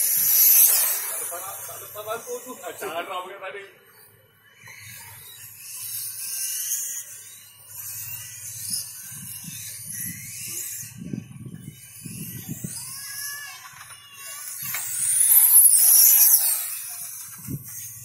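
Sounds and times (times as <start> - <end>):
rc motorcycle motors whining: 0.0 - 18.0.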